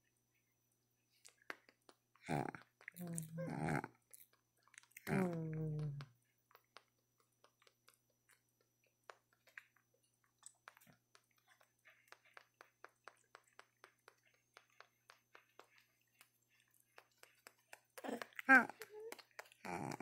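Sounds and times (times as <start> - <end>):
monkey mouth clicks and smacks: 1.2 - 20.0.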